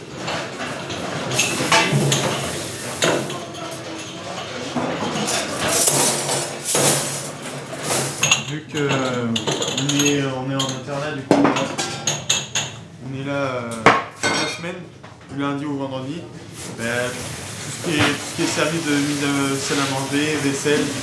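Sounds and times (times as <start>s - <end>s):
crockery and cutlery clattering: 0.0s - 12.9s, 13.8s - 14.7s, 16.6s - 21.0s.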